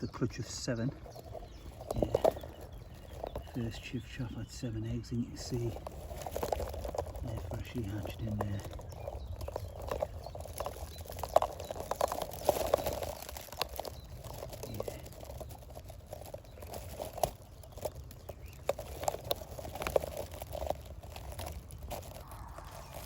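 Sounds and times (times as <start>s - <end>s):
dry grass and leaves rustling: 0.0s - 23.0s.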